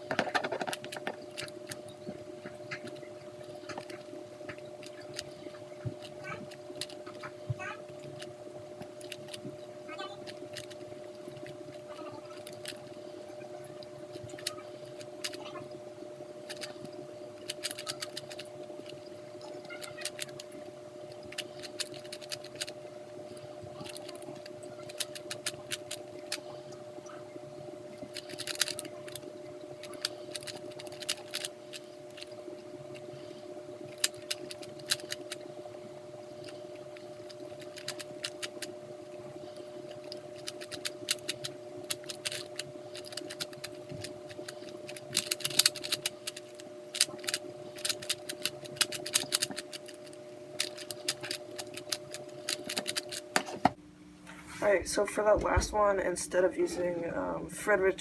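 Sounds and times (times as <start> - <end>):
speed cube plastic clicks: 0.0 - 7.4, 8.0 - 9.6, 10.2 - 13.0, 14.1 - 15.6, 16.4 - 26.5, 28.0 - 35.5, 36.4 - 53.8
low electrical hum: 0.0 - 58.0.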